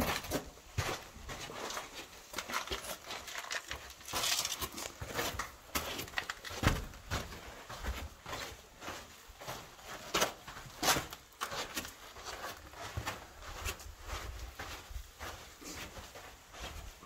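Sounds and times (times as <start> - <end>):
footsteps crunching on sand: 0.0 - 17.0.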